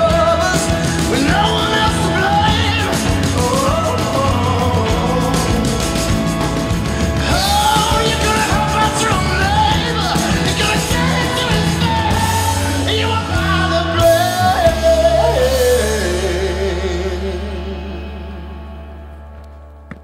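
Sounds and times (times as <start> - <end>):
song with sung melody: 0.0 - 20.0.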